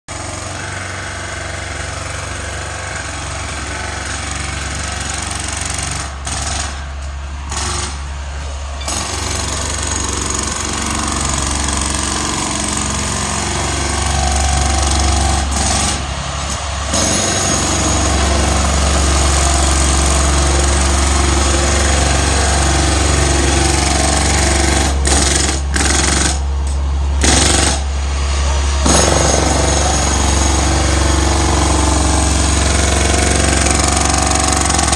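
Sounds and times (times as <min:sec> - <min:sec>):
rough hammering mechanical noise: 0:00.1 - 0:34.9
low engine drone: 0:01.8 - 0:34.9.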